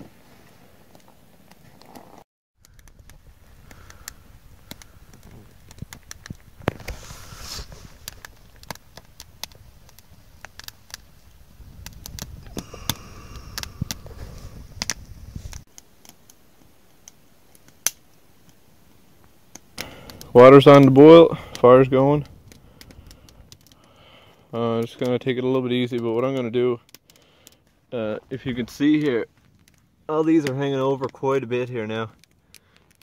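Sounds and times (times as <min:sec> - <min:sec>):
campfire crackling and popping: 0:00.7 - 0:33.0.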